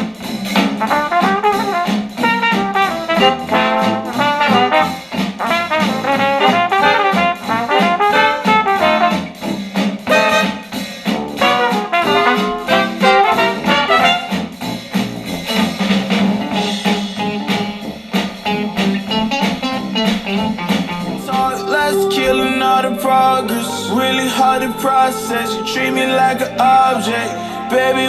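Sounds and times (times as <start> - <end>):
jazz with trumpet and trombone: 0.0 - 28.0.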